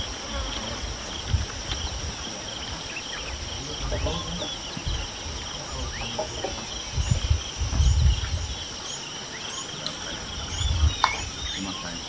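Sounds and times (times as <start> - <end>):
birds chirping: 0.0 - 12.0
insects droning: 0.0 - 12.0.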